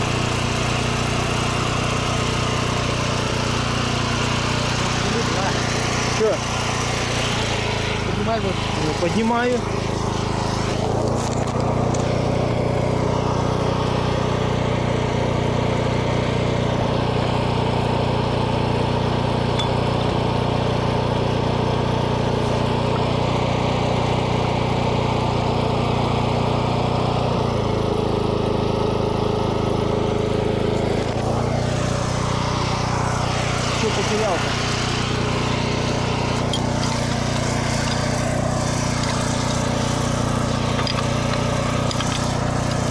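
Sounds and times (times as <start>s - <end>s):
generator engine droning: 0.0s - 42.9s.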